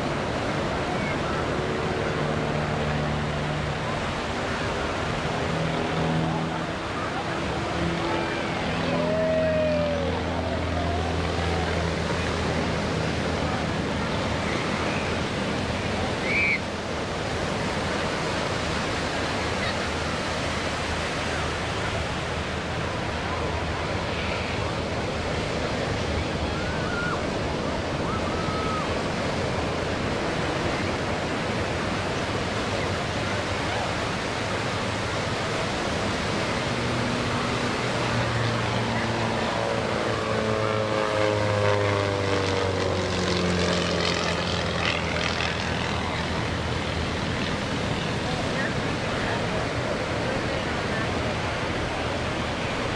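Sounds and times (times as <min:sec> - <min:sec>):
distant biplane engine: 0:00.0 - 0:52.9
rushing surf: 0:00.0 - 0:52.9.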